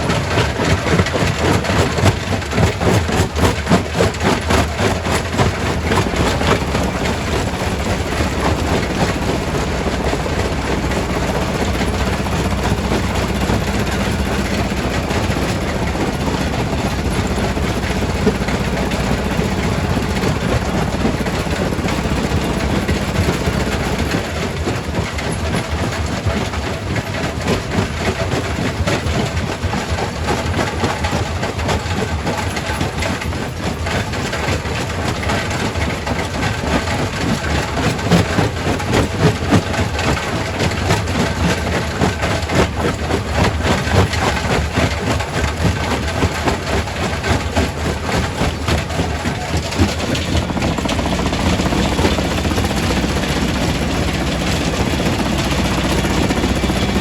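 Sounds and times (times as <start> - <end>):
rock crusher machinery drone: 0.0 - 57.0.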